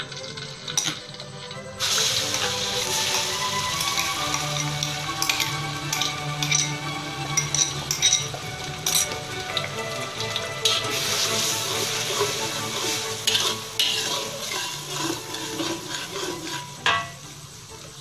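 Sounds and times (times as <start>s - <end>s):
metal spatula scraping wok: 0.0s - 18.0s
paste sizzling in hot oil: 0.0s - 18.0s.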